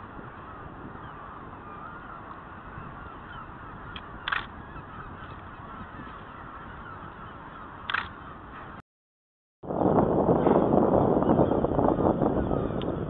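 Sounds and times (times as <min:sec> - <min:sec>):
birds calling: 0:00.0 - 0:08.8, 0:10.4 - 0:13.0.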